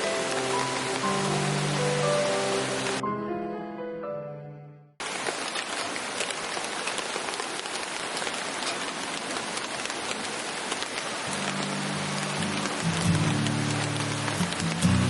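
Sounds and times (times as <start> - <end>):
steady rain falling: 0.0 - 3.0, 5.0 - 15.0.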